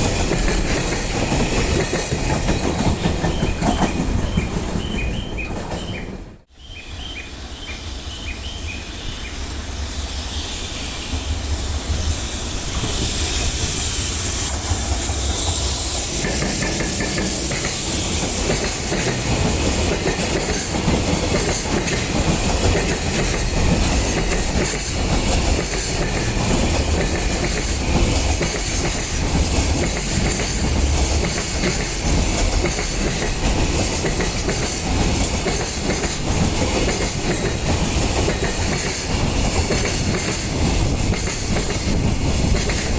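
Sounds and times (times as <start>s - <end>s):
wheels clacking over rail joints: 0.0s - 6.4s, 14.5s - 42.9s
freight train rolling past: 0.0s - 42.9s.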